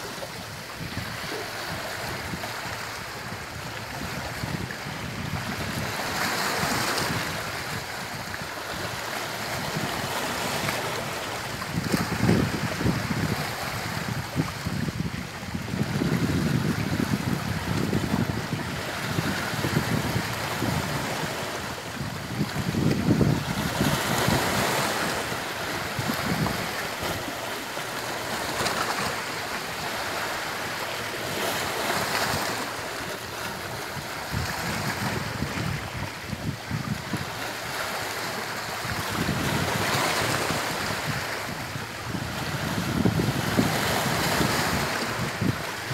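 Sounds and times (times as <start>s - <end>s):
sea waves breaking on shore: 0.0s - 45.9s
wind on microphone: 0.0s - 45.9s.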